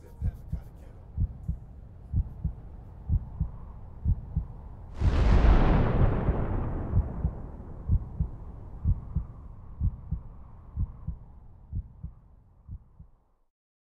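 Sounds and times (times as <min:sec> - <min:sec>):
heartbeat thumps: 0:00.0 - 0:13.2
low rumble: 0:00.2 - 0:13.2.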